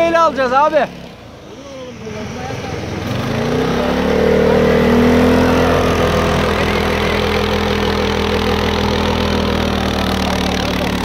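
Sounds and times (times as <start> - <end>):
atv engine at high revs: 0.0 - 11.0.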